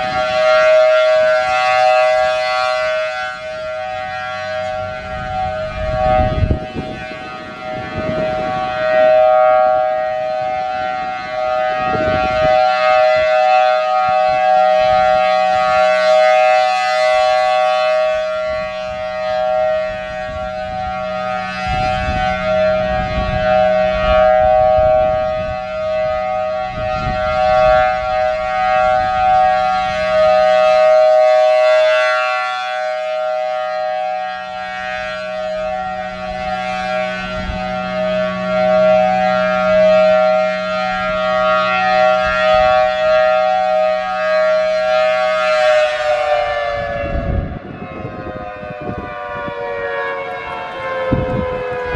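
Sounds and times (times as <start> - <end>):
warning siren steady tone: 0.0 - 51.9
wind buffeting microphone: 0.0 - 51.9.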